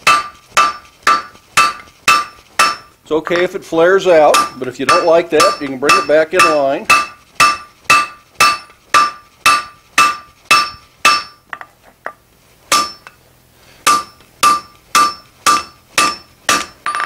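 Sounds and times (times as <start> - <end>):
hammer ringing on anvil: 0.1 - 3.5, 4.2 - 11.4, 12.7 - 13.1, 13.8 - 17.0.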